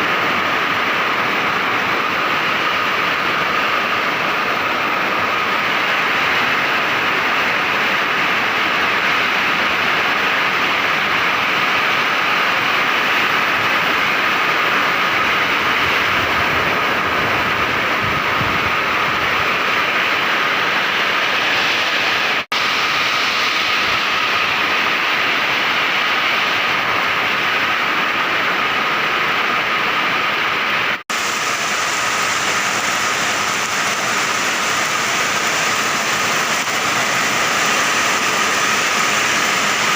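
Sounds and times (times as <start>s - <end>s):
heavy rain pouring: 0.0s - 39.9s
strong wind: 0.0s - 39.9s.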